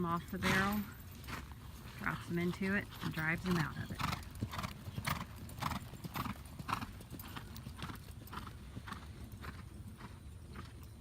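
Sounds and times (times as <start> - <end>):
horse hoofbeats: 0.0 - 11.0.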